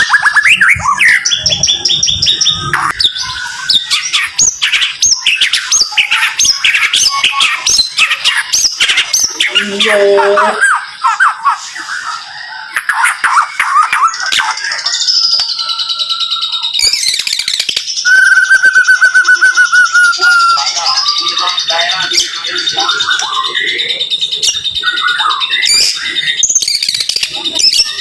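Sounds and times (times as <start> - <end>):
bird singing whistles and trills: 0.0 - 28.0.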